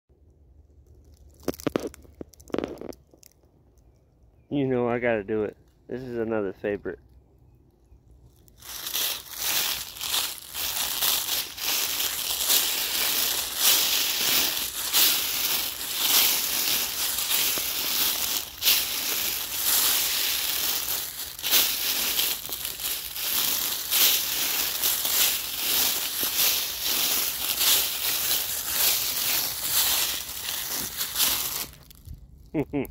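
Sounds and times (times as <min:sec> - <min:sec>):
footsteps crunching dry leaves: 0:01.0 - 0:03.3, 0:08.2 - 0:32.4.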